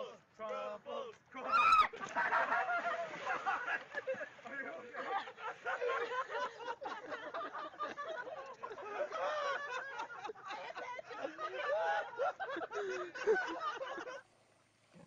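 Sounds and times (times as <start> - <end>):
people laughing and shrieking: 1.4 - 4.3, 5.1 - 14.2.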